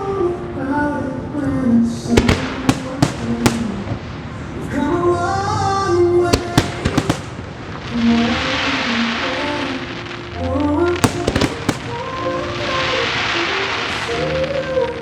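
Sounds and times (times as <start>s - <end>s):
fireworks bursting with bangs: 2.0s - 15.0s.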